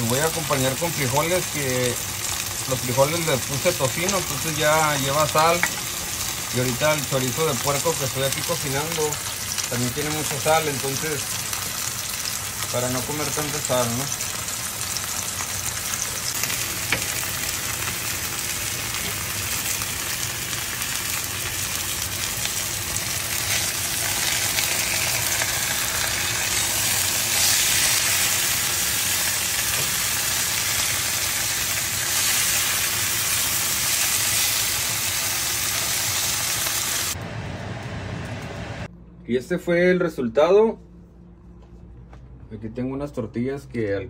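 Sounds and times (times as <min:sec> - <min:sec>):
meat sizzling in oil: 0:00.0 - 0:37.2
cactus paddles sizzling: 0:00.0 - 0:37.3.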